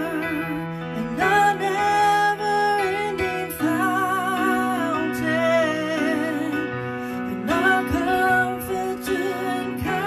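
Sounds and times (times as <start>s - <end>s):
electronic keyboard chords: 0.0s - 10.0s
woman singing: 0.0s - 10.0s.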